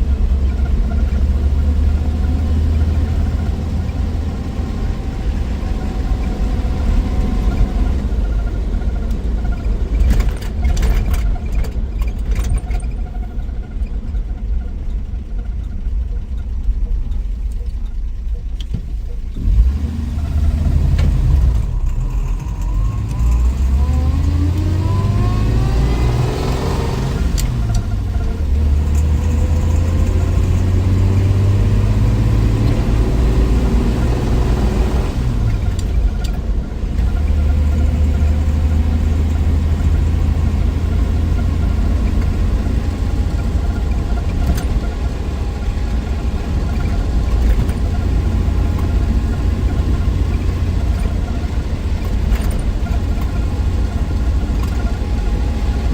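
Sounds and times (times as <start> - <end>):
car engine accelerating: 0.0 - 55.9
road rumble: 0.0 - 55.9.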